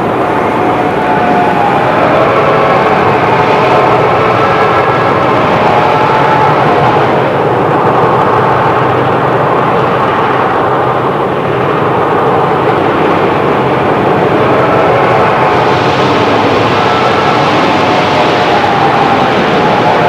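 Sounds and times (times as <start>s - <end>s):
moving train rumble and hiss: 0.0s - 20.0s.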